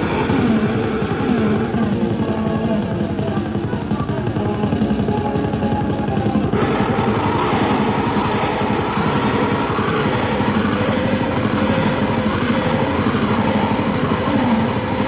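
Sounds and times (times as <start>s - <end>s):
harsh noise electronic music: 0.0s - 15.0s.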